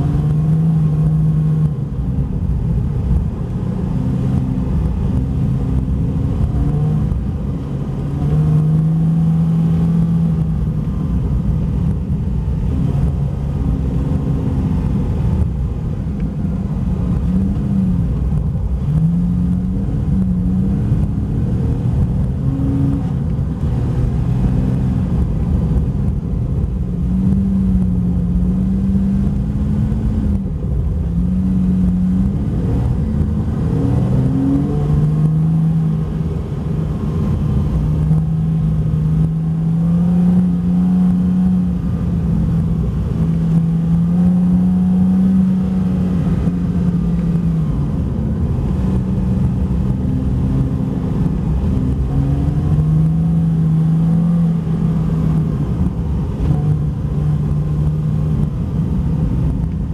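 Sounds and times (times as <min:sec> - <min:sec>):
car engine revving: 0:00.0 - 0:59.9
studded tyres rumbling on ice: 0:00.0 - 0:59.9.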